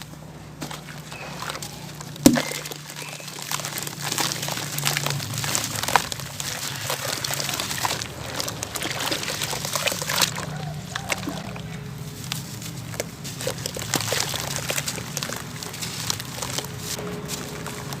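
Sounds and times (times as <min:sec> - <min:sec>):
dry clumps crunching by hand: 0:00.0 - 0:18.0.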